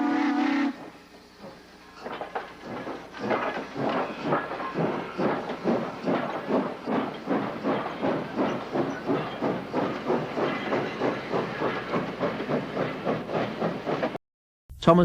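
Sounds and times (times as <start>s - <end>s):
steam locomotive chuffing: 0.0s - 14.2s.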